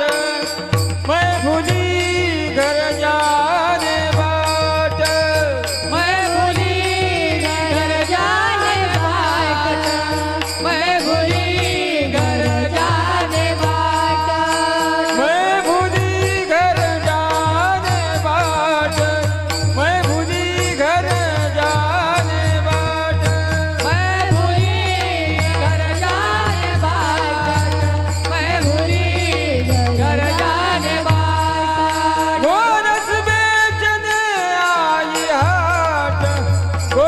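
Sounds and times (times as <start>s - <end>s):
person singing devotional song: 0.0s - 37.0s.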